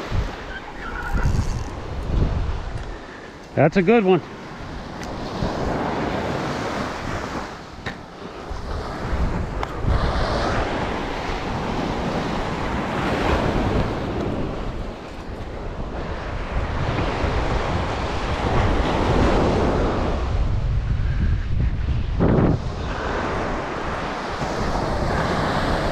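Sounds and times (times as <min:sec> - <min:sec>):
wind on microphone: 0:00.0 - 0:03.2, 0:04.5 - 0:25.9
surf breaking on beach: 0:03.6 - 0:25.9.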